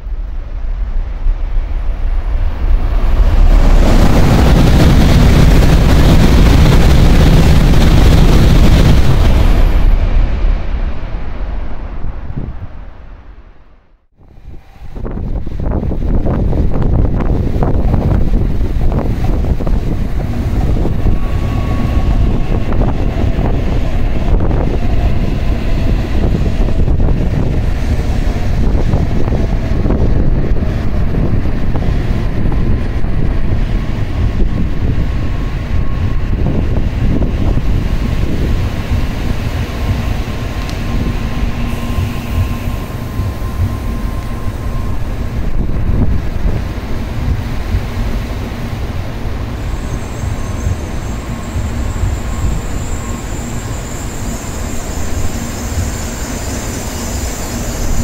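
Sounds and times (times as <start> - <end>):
wind buffeting microphone: 0.0 - 13.5, 14.1 - 58.0
train wheels rumbling on rail: 0.0 - 58.0.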